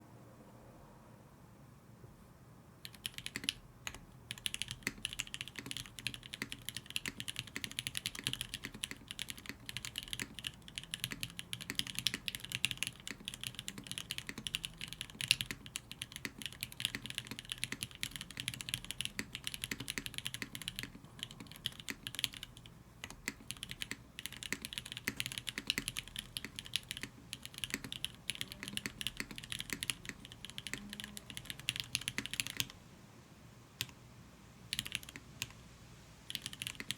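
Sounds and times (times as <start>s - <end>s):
mechanical keyboard typing: 2.8s - 32.8s, 34.7s - 35.5s, 36.3s - 36.9s.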